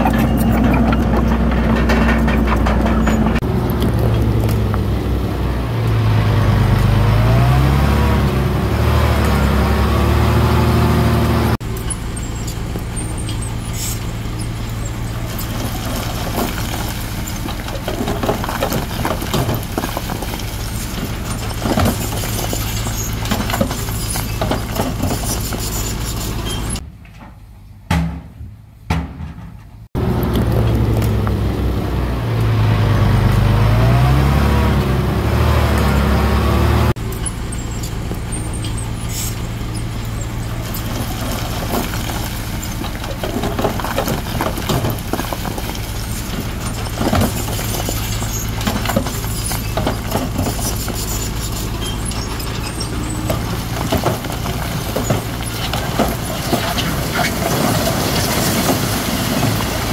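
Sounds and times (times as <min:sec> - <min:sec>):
diesel machinery engine revving: 0:00.0 - 0:26.8, 0:30.0 - 0:59.9
rough mechanical noise with knocks: 0:00.0 - 0:59.9.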